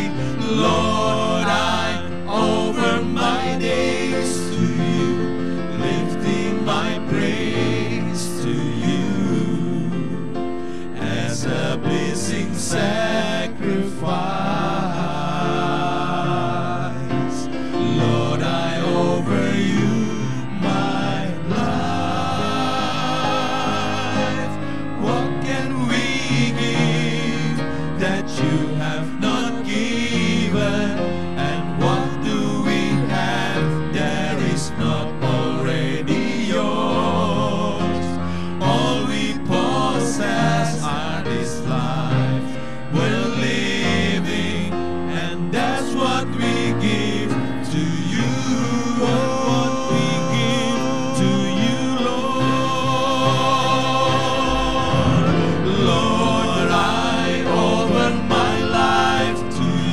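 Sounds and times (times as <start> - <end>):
male vocal quartet singing in harmony: 0.0 - 59.9
piano accompaniment: 0.0 - 59.9.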